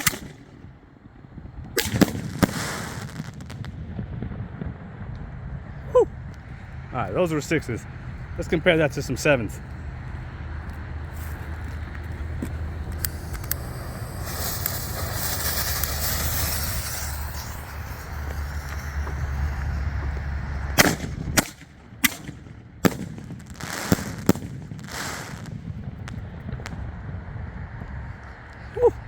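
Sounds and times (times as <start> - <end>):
firework bangs: 0.0 - 28.0
firework hissing: 1.8 - 4.3, 5.6 - 27.0.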